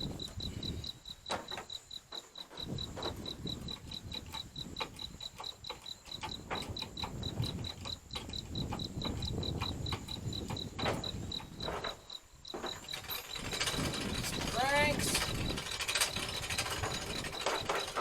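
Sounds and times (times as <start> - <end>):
cricket chirping: 0.0 - 18.0
metallic clicks and knocks: 1.2 - 18.0.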